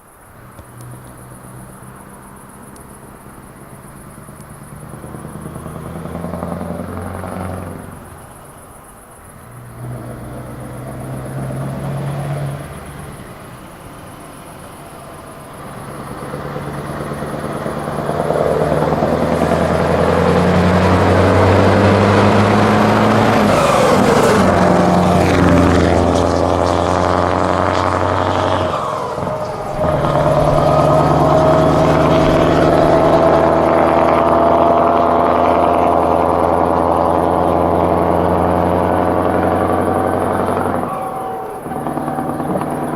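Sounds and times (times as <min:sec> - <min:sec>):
truck engine driving past: 0:00.4 - 0:42.9.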